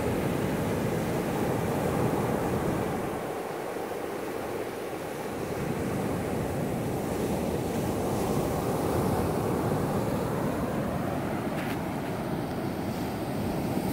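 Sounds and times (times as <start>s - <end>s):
ocean surf breaking on beach: 0.0s - 13.9s.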